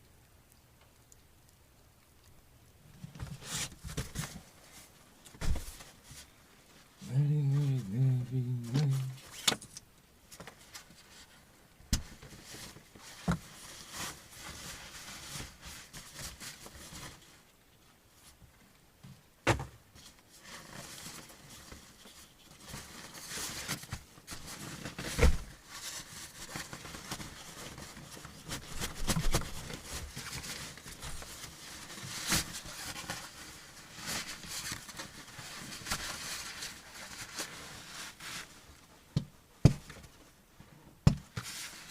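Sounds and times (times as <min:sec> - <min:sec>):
rustling and handling noises: 0:00.0 - 0:41.9.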